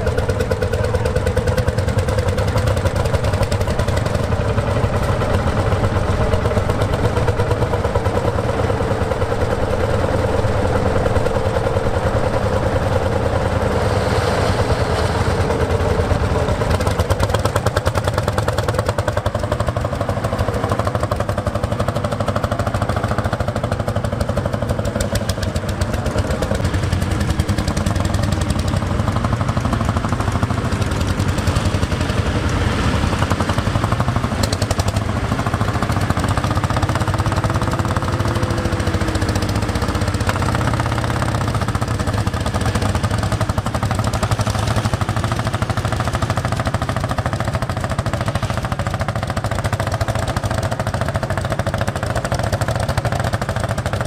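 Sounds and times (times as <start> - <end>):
tractor engines chugging: 0.0 - 54.0.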